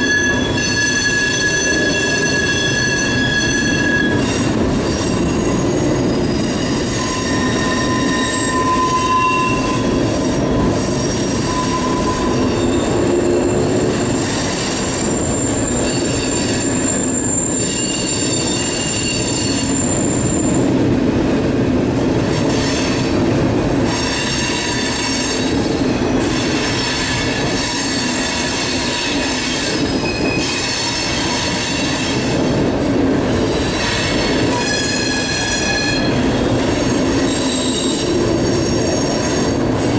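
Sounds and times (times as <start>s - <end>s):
high wheel squeals: 0.0s - 20.7s, 26.4s - 32.2s, 33.5s - 39.6s
train wheels rumbling on rail: 0.0s - 39.9s.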